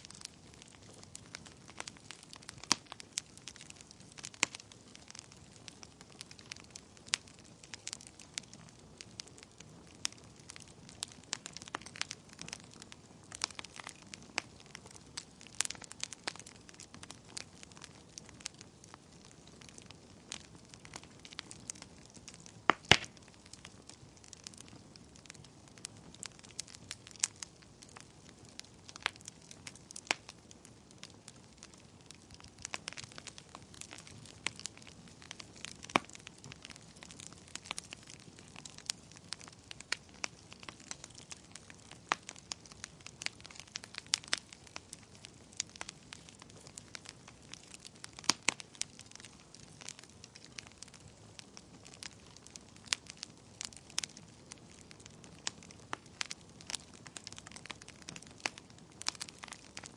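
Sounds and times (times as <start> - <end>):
burning logs crackling and popping: 0.0 - 59.9.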